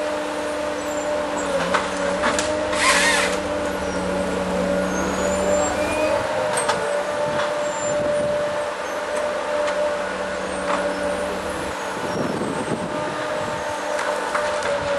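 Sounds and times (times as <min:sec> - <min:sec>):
harvester engine whining: 0:00.0 - 0:14.9.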